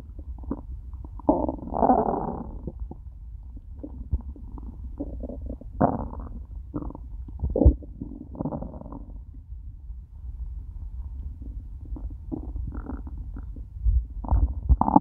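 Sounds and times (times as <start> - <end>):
stomach gurgling: 0.0 - 9.4, 11.1 - 15.0
low stomach rumble: 0.0 - 15.0.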